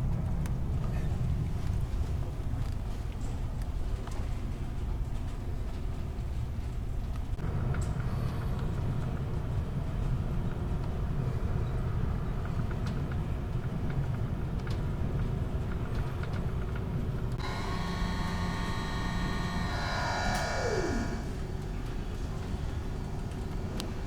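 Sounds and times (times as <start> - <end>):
ferry engine low rumble: 0.0 - 24.0.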